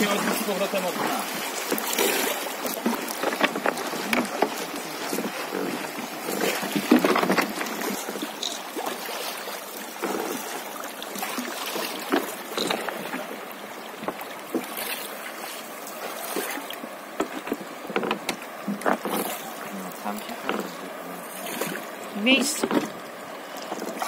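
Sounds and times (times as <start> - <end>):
pole splashing in water: 0.0 - 13.4, 14.0 - 23.0
river water running and lapping: 0.0 - 24.0.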